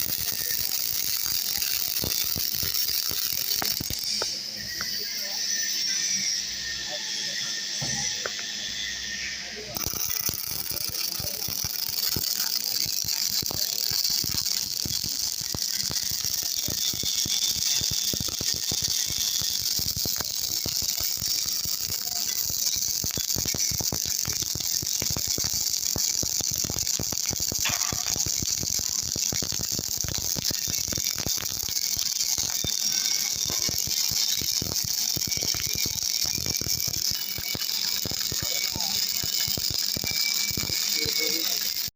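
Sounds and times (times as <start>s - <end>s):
welding arc crackling and hissing: 0.0s - 41.9s.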